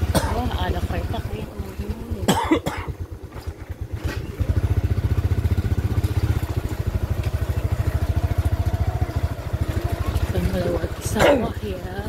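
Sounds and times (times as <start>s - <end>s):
engine running with fast pulse: 0.0s - 12.0s.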